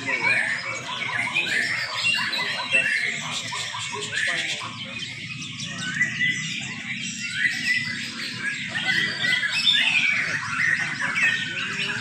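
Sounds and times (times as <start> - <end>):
birds whistling and chirping: 0.0 - 12.0.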